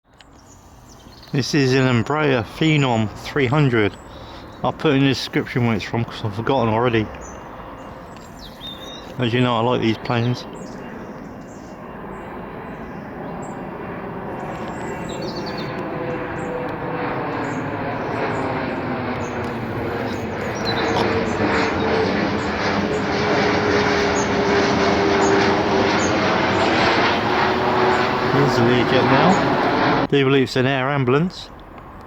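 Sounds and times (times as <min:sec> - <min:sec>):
jet engine whine: 0:00.2 - 0:30.2, 0:31.5 - 0:32.0
jet engines roaring: 0:00.2 - 0:32.0.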